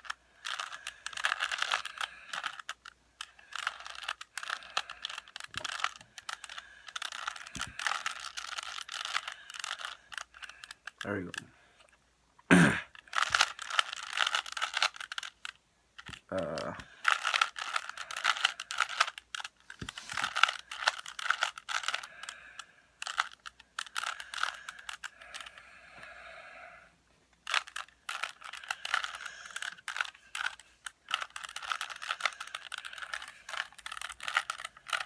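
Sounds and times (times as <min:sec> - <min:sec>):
plastic cube layers clicking: 0:00.0 - 0:11.5, 0:12.9 - 0:25.6, 0:27.3 - 0:35.0.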